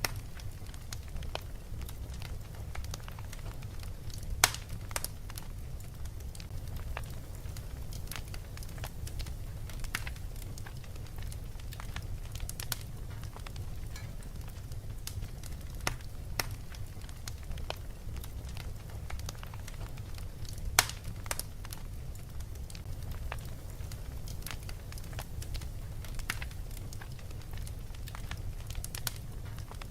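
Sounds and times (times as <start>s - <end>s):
fireplace crackling and popping: 0.0s - 29.9s
steady low rumble: 0.0s - 29.9s.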